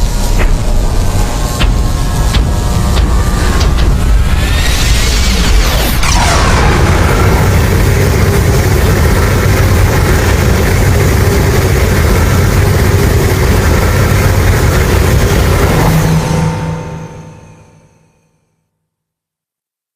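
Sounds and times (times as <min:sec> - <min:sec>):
deep rumbling: 0:00.0 - 0:18.0.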